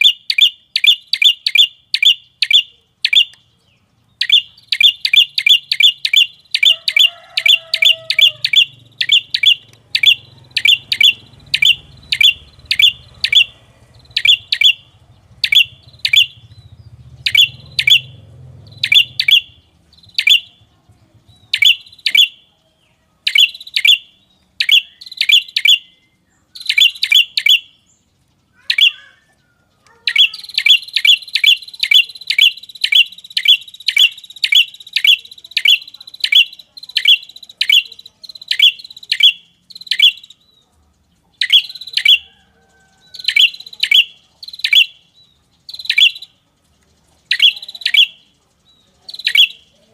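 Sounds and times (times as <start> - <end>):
bird lure call high chirps: 0.0 - 22.6, 23.2 - 49.9.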